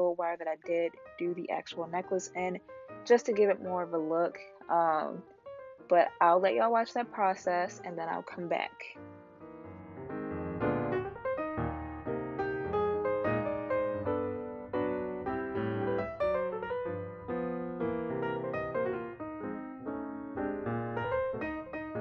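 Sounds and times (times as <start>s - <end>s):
background piano music: 0.0s - 22.0s.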